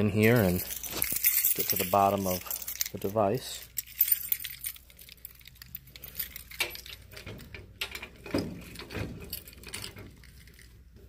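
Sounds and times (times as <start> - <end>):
keys jangling on keyring: 0.1 - 10.8.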